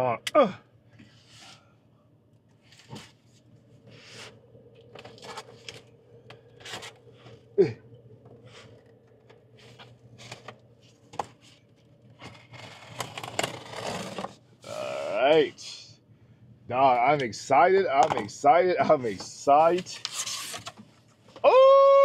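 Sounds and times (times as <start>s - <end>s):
steady low hum: 0.0s - 21.3s.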